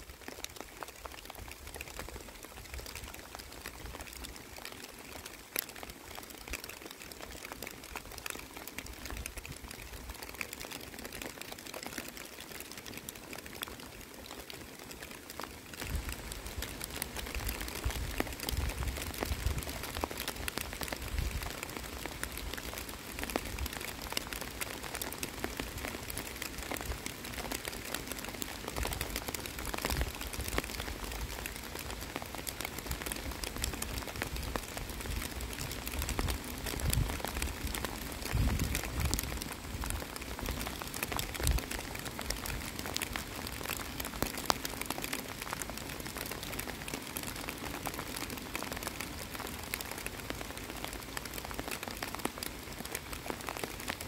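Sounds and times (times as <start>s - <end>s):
rain pattering on water: 0.0s - 54.0s.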